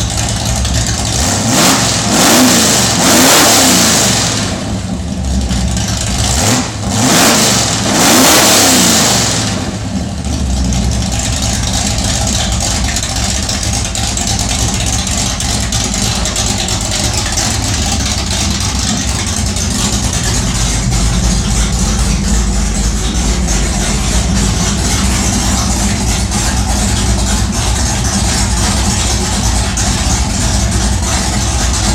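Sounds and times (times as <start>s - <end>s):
car engine revving and idling: 0.0s - 31.9s.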